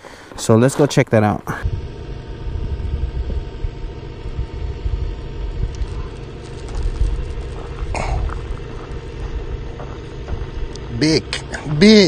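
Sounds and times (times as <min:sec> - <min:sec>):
wind buffeting microphone: 0:01.6 - 0:11.8.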